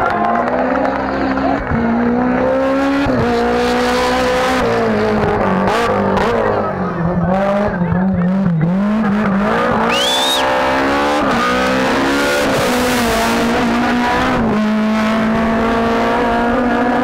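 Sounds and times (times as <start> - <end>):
rally car passing at high revs: 0.2 - 17.0.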